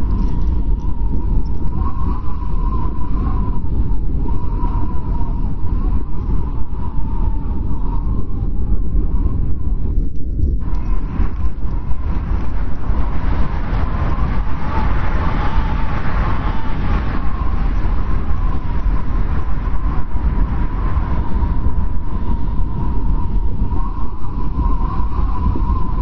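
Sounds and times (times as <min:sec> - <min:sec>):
thin wavering wind whistle: 0:00.0 - 0:26.0
wind rumbling: 0:00.0 - 0:26.0.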